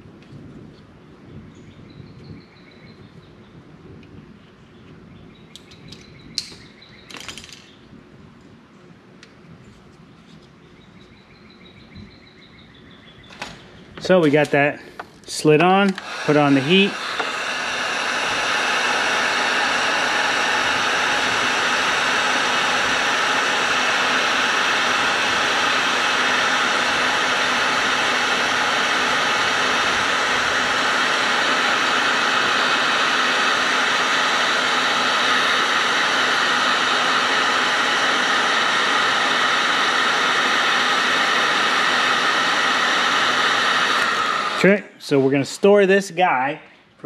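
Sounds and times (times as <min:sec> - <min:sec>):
heat gun fan blowing: 0:00.0 - 0:47.0.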